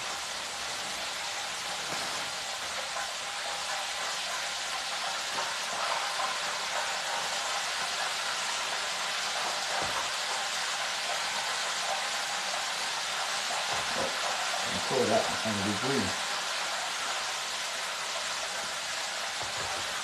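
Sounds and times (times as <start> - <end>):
food sizzling in a fryer: 0.0 - 20.0.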